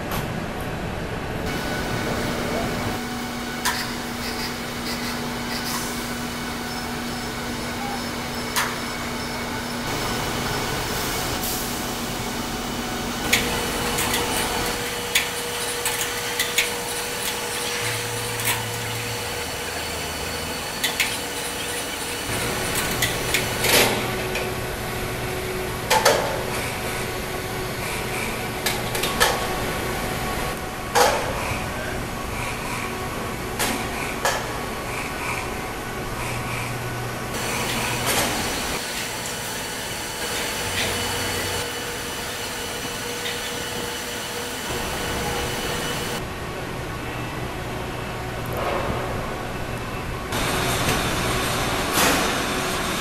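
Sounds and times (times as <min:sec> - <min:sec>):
machinery hum: 0:00.0 - 0:53.0.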